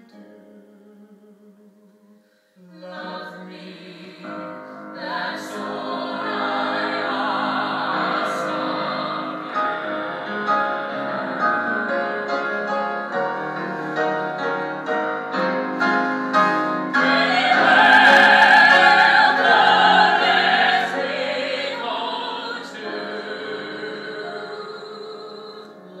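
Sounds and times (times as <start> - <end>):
piano accompaniment: 0.0 - 26.0.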